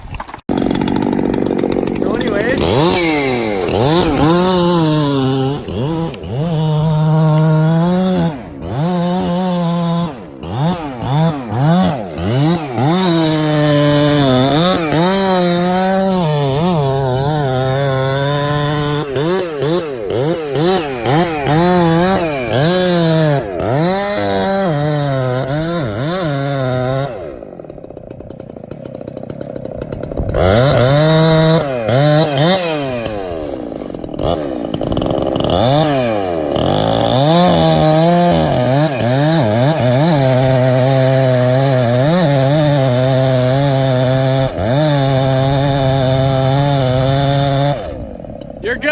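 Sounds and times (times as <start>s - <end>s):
two-stroke chainsaw revving: 0.0s - 48.9s.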